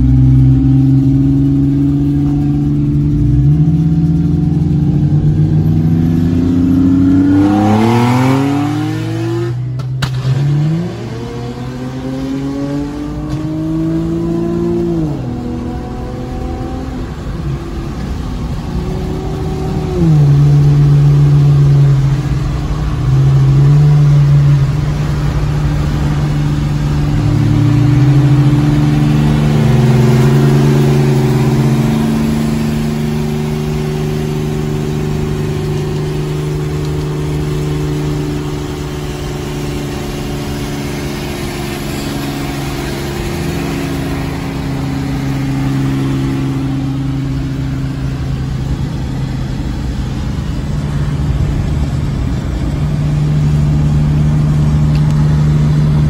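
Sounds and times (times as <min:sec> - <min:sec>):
car engine revving inside cabin: 0:00.0 - 0:56.0.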